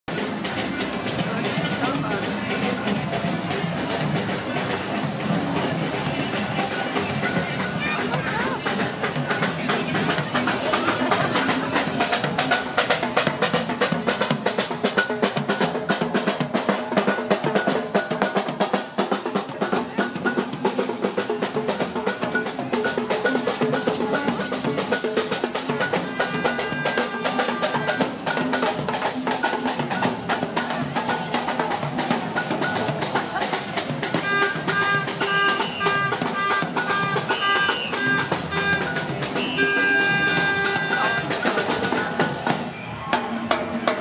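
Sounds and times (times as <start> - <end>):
samba percussion band drumming: 0.1 - 44.0.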